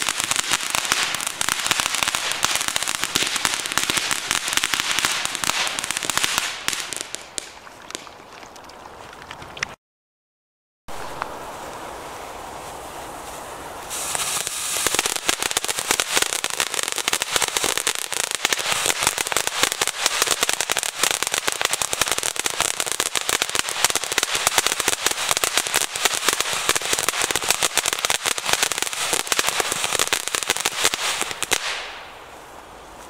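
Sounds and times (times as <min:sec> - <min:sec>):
firework fountain hissing and crackling: 0:00.0 - 0:07.6, 0:10.9 - 0:33.0.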